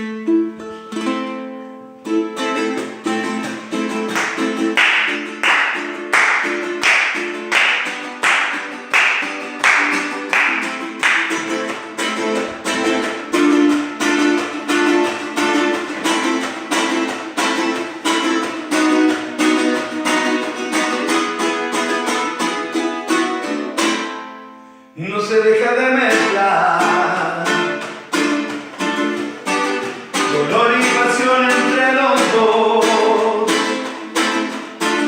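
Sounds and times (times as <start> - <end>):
guitar strumming: 0.0 - 35.0.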